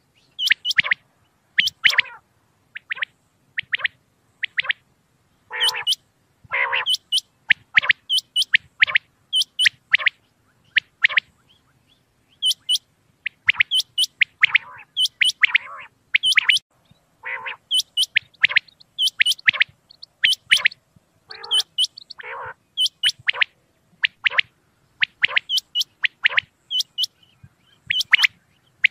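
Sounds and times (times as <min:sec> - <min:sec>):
rasping bird calls: 0:00.0 - 0:01.0, 0:01.6 - 0:04.8, 0:05.4 - 0:16.6, 0:17.2 - 0:28.9
quail calling: 0:00.2 - 0:01.0, 0:01.6 - 0:04.8, 0:05.5 - 0:16.6, 0:17.2 - 0:28.9.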